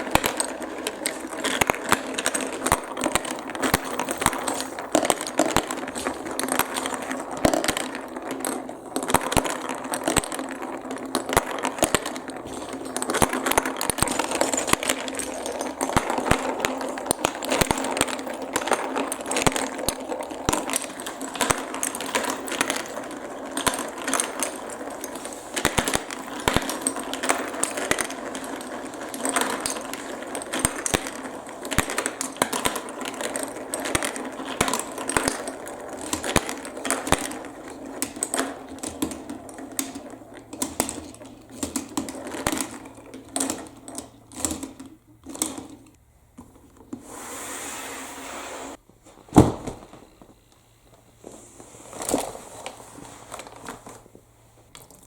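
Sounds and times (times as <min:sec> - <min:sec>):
marbles clattering down plastic run: 0:00.0 - 0:46.0.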